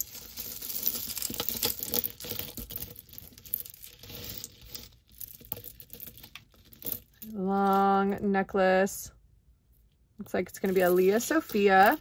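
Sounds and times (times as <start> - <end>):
beads and metal chain clicking: 0.0 - 8.2, 10.5 - 12.0.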